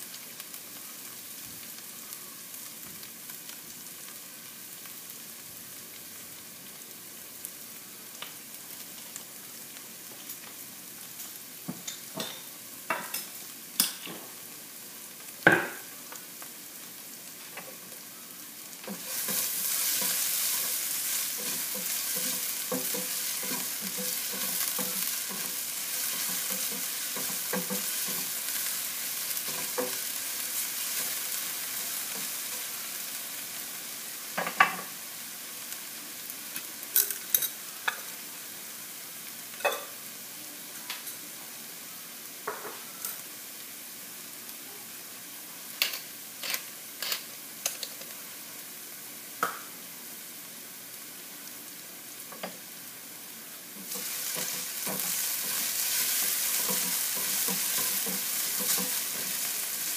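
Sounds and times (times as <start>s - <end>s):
ginger sizzling in oil: 0.0s - 59.9s.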